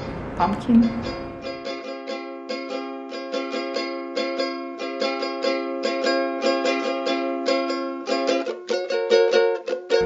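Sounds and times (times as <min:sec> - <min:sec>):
plucked ukulele-like notes: 0:00.1 - 0:10.0.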